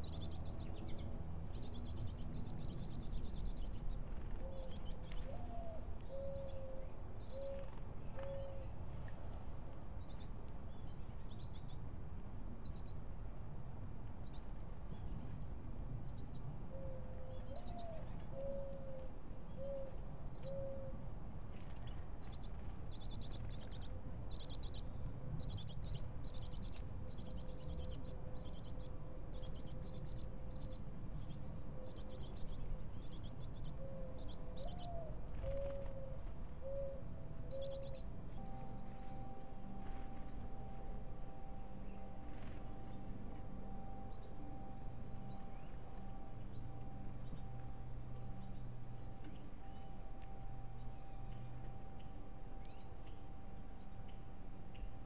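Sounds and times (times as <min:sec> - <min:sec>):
birds chirping: 0:00.0 - 0:08.8, 0:10.0 - 0:11.9, 0:21.6 - 0:55.0.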